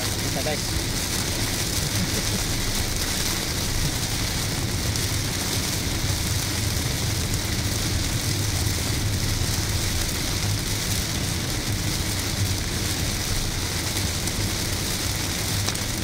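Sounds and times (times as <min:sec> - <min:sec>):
engine and tyre rumble: 0:00.0 - 0:16.0
rain hissing on car: 0:00.0 - 0:16.0.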